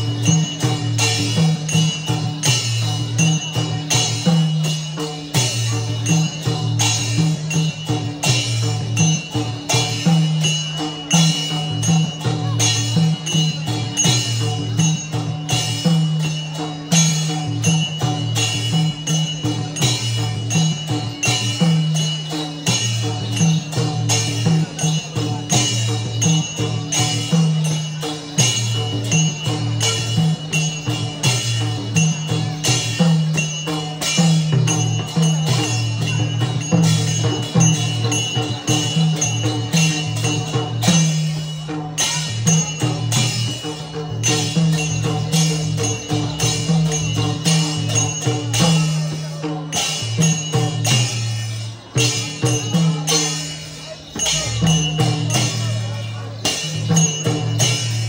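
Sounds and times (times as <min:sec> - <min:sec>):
clashing cymbals: 0:00.0 - 0:58.0
drums: 0:00.0 - 0:58.0.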